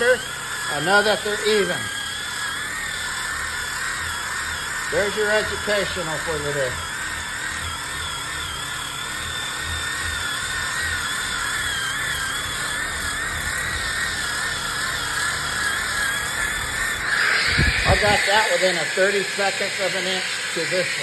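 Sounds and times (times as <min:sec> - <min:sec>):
electric sander on wood: 0:00.0 - 0:21.0.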